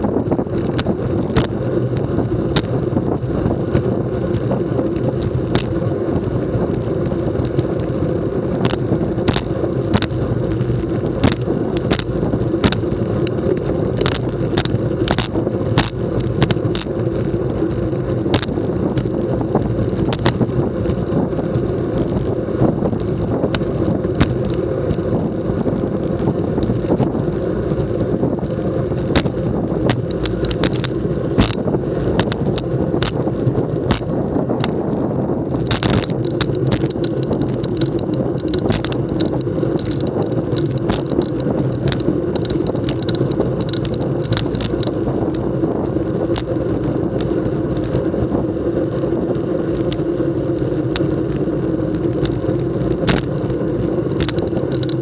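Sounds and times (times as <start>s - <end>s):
tyre rumble: 0.0s - 55.0s
wind rush: 0.0s - 55.0s
bike ticks and knocks: 0.1s - 34.8s, 35.5s - 48.0s, 51.0s - 55.0s.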